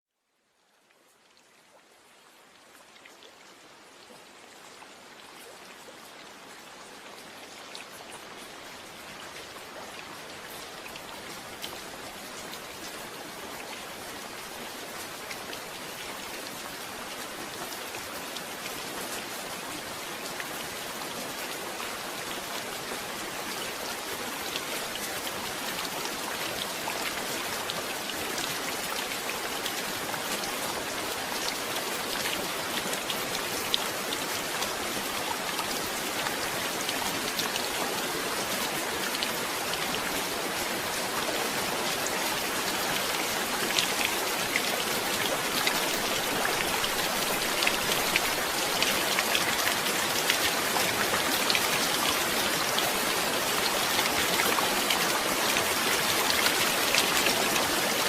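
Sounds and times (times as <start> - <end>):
steady rain pattering: 0.1 - 58.0.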